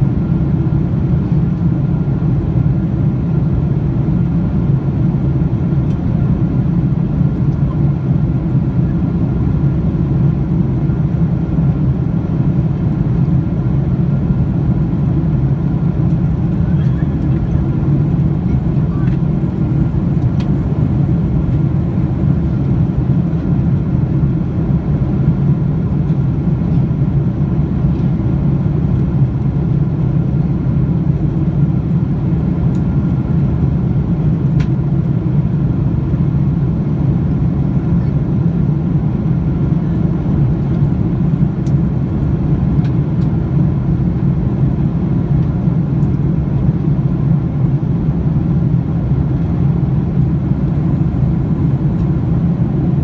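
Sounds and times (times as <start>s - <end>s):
low hum of jet engine and airflow: 0.0s - 53.0s.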